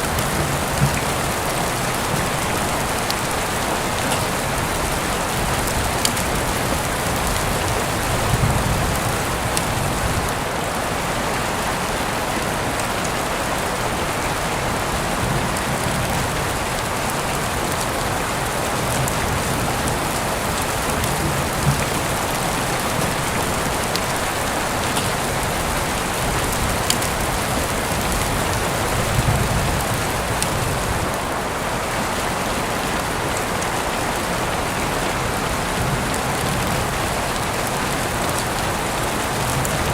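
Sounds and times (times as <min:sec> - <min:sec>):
heavy rain falling: 0:00.0 - 0:39.9
rain drops ticking: 0:00.0 - 0:39.9.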